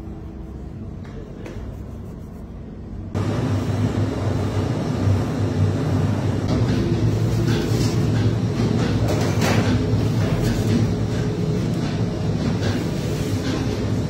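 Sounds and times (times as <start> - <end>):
oven burner humming: 2.7 - 14.0.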